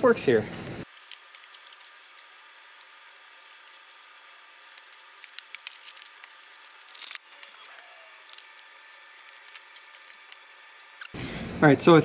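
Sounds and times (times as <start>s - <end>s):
crackle: 0.8s - 11.2s.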